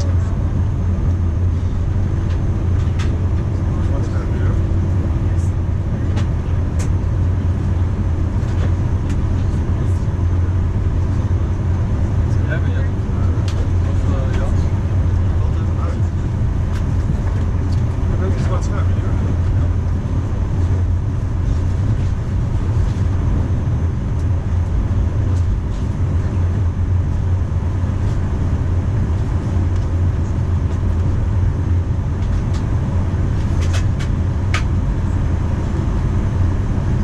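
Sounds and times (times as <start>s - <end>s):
airplane cabin engine rumble: 0.0s - 37.0s.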